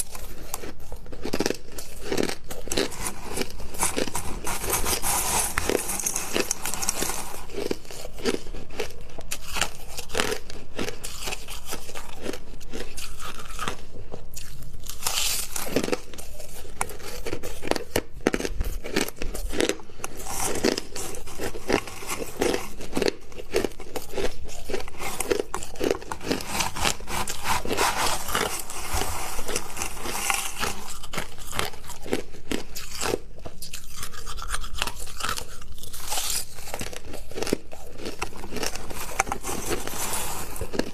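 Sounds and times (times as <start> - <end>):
chewing crushed ice: 0.0 - 40.9.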